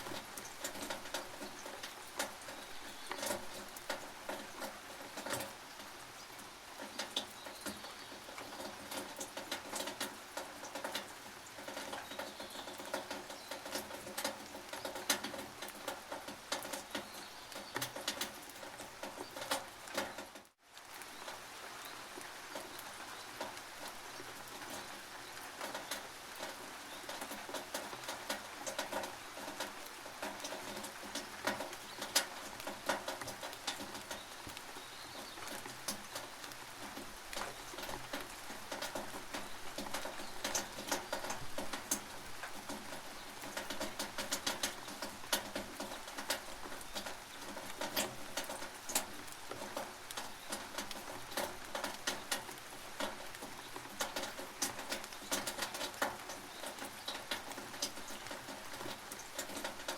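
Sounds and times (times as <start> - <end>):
rain drops tapping on tin roof: 0.0 - 59.9
steady hiss of rain: 0.0 - 59.9.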